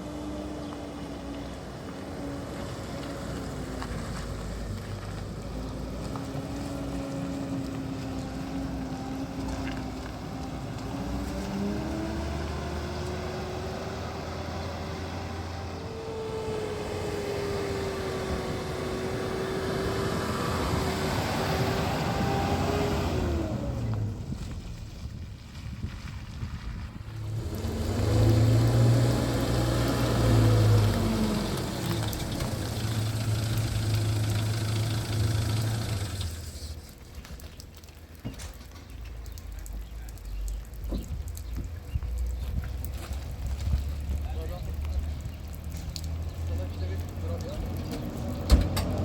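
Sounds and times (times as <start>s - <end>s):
car engine driving: 0.0s - 49.0s.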